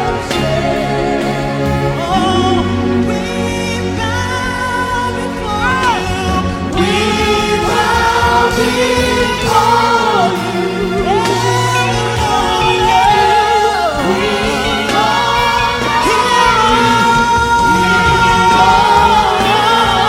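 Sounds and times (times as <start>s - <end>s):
bass accompaniment: 0.0s - 20.0s
choir singing gospel: 0.0s - 20.0s
held keyboard chords: 0.0s - 20.0s.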